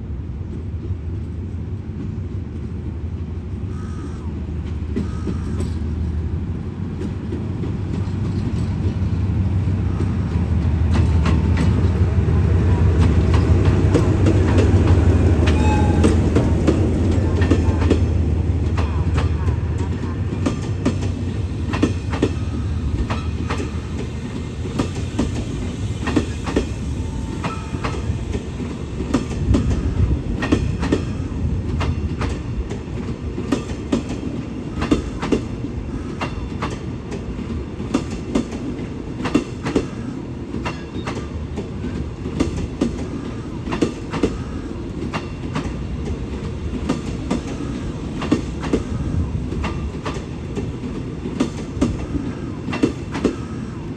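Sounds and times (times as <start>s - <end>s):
train rumbling past: 0.0s - 53.9s.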